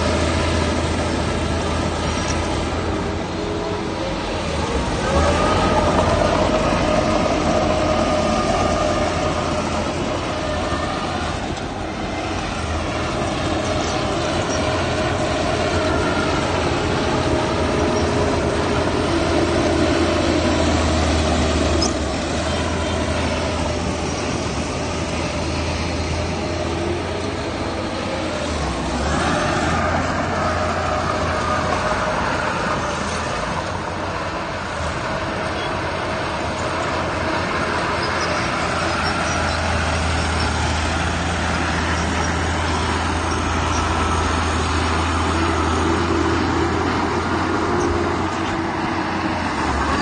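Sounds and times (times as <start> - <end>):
heavy diesel machinery running: 0.0 - 50.0.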